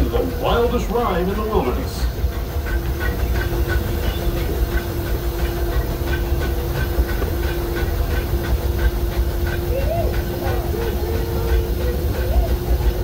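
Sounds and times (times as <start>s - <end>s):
steady humming tone: 0.0s - 13.0s
steam hiss: 0.0s - 13.0s
train wheels rumbling on rails: 0.0s - 13.0s.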